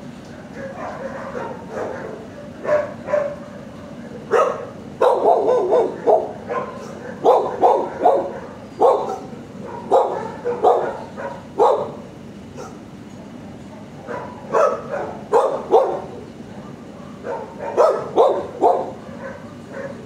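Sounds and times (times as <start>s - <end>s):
dogs barking: 0.3s - 20.0s.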